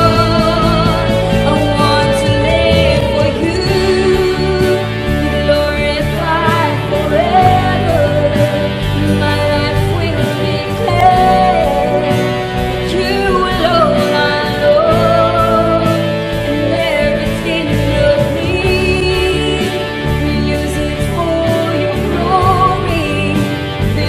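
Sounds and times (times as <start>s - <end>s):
instrumental backing with beat: 0.0s - 24.0s
person singing: 0.0s - 24.0s.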